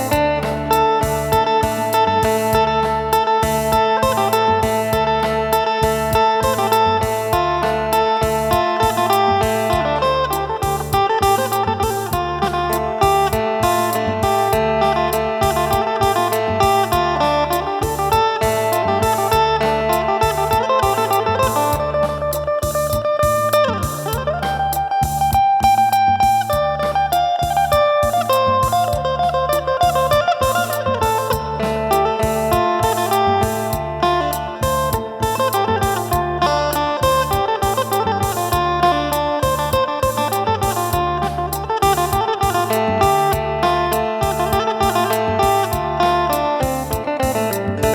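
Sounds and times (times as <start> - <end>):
bass line: 0.0 - 47.9
plucked lute melody: 0.0 - 47.9
steady percussion: 0.0 - 47.9.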